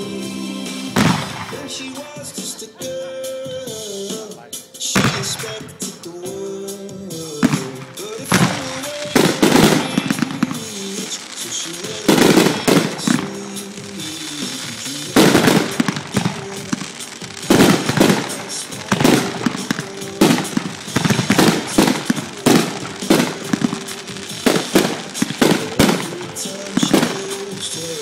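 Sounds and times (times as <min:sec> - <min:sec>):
firework shells bursting: 0:01.0 - 0:02.5, 0:05.0 - 0:06.3, 0:07.1 - 0:28.0.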